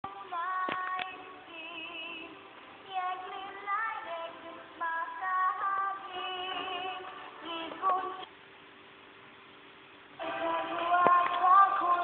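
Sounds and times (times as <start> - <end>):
music with high singing voice: 0.0 - 8.5, 10.2 - 12.0.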